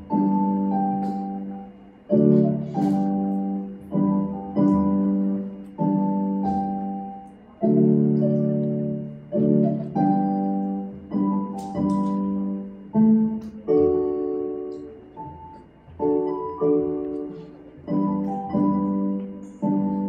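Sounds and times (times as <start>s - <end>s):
slow piano piece on keyboard: 0.0s - 20.0s.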